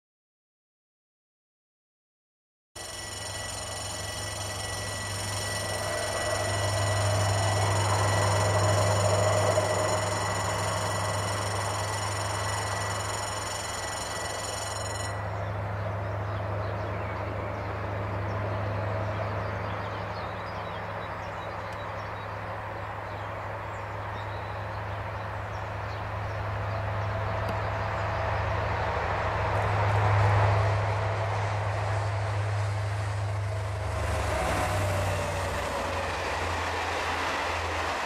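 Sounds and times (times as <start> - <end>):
diesel locomotive engine drone: 2.8 - 38.0.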